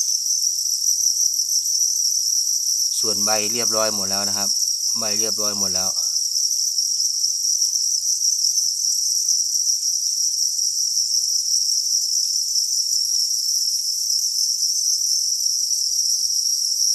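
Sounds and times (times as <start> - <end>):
crickets chirping: 0.0 - 16.9.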